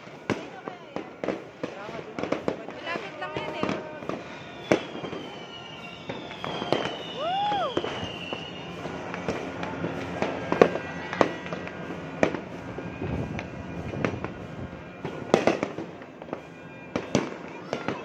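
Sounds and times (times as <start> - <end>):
distant fireworks bangs: 0.0 - 18.0
firework whistle falling: 1.2 - 18.0.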